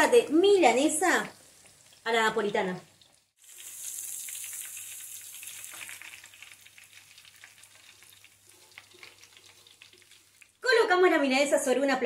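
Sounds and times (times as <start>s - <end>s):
hot oil sizzling and popping: 0.0s - 11.0s.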